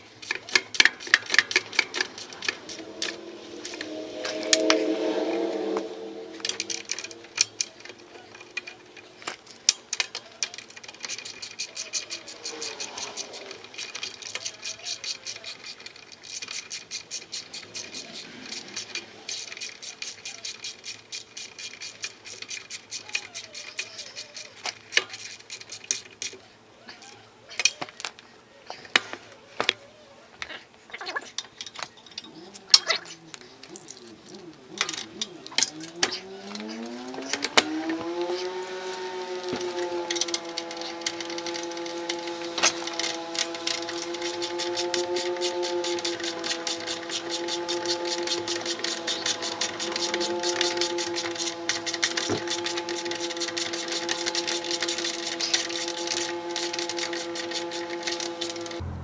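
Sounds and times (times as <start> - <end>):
ratchet wrench clicking: 0.0 - 3.9, 6.6 - 26.4, 33.7 - 58.8.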